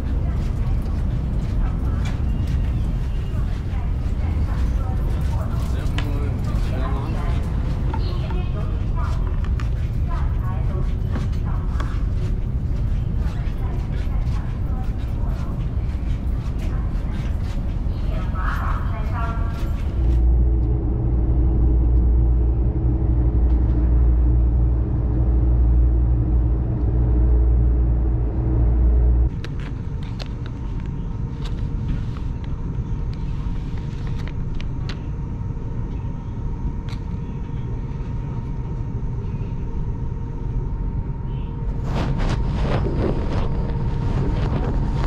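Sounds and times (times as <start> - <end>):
train cabin hum: 0.0 - 45.0
train rumbling over bridge: 0.0 - 45.0.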